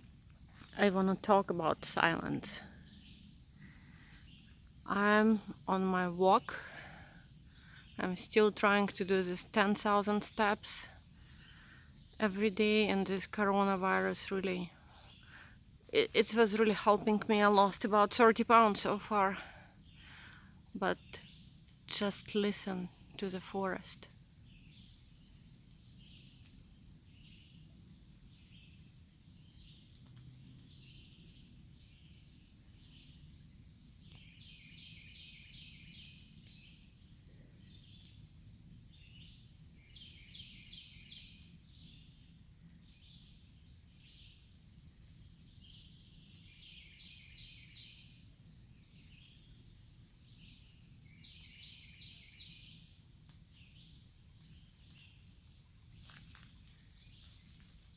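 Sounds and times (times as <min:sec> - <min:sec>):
high insect drone: 0:00.0 - 0:57.9.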